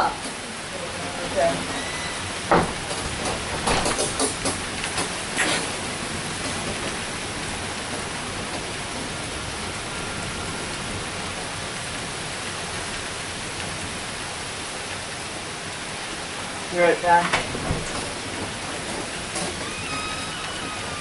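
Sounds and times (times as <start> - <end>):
heavy rain downpour: 0.0 - 21.0.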